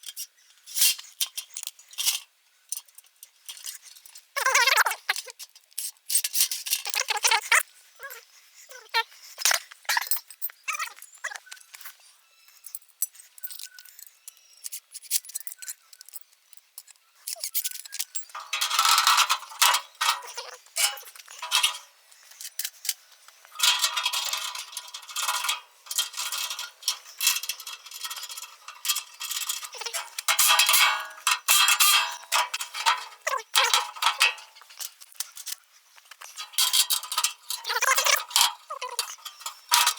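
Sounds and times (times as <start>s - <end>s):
metal parts clinking and rattling: 0.0s - 7.6s, 12.6s - 39.9s.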